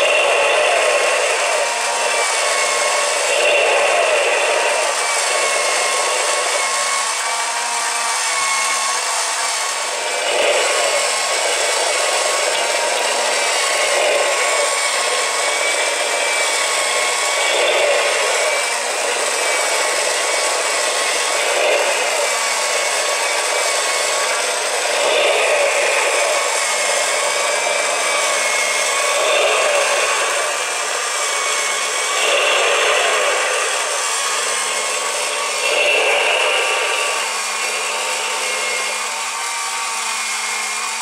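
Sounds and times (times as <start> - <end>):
small electric motor whirring: 0.0 - 41.0.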